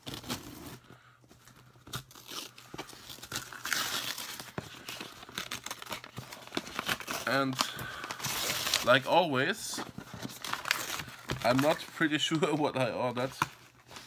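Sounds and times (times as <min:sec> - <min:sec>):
wrapping tearing and crinkling: 0:00.0 - 0:00.8, 0:01.4 - 0:14.0.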